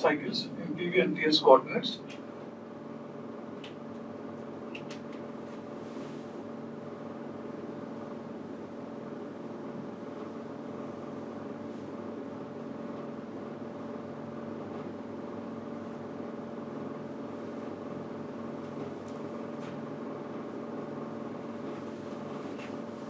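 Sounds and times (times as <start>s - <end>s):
mechanical room hum: 0.0s - 23.0s.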